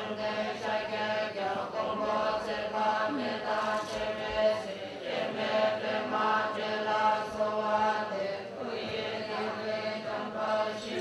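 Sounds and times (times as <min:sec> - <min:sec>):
voices chanting on held notes: 0:00.0 - 0:11.0.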